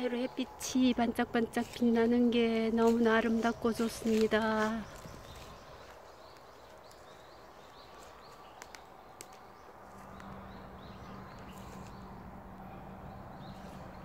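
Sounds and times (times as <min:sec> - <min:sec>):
bird chirping: 0:01.6 - 0:14.0.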